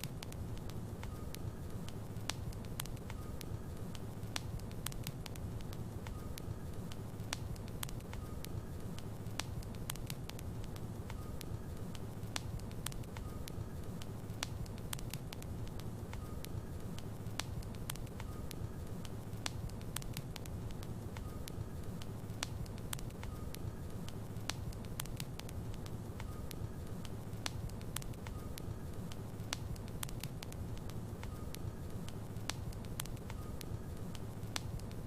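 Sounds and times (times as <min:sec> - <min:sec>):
fire crackles and pops: 0:00.0 - 0:35.0
wood fire burning: 0:00.0 - 0:35.0.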